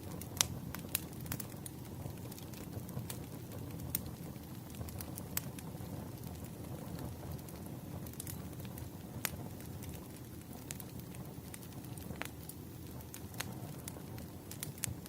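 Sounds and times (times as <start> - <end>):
logs popping and crackling: 0.0 - 15.0
low rumble of flames: 0.0 - 15.0.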